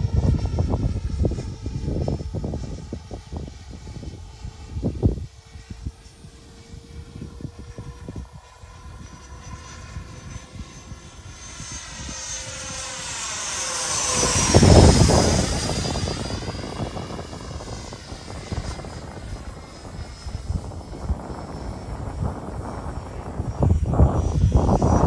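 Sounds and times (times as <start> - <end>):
electric jet fan whine flyby: 0.0 - 25.0
wind buffeting microphone: 0.0 - 25.0.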